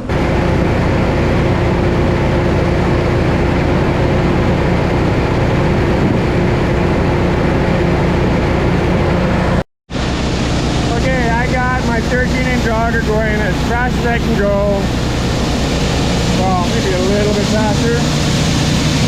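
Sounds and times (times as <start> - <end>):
grain auger running: 0.0 - 19.0.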